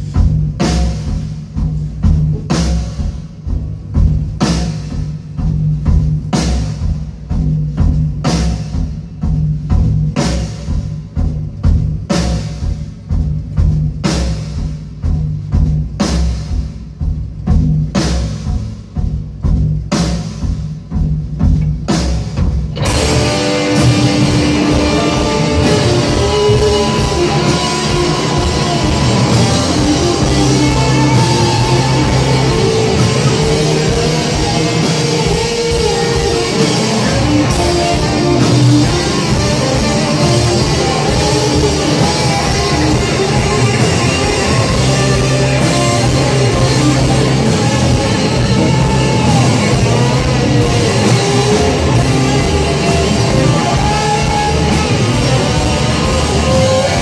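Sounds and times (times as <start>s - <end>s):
rock band playing: 0.0s - 57.0s
slow heavy drum strokes: 0.0s - 57.0s.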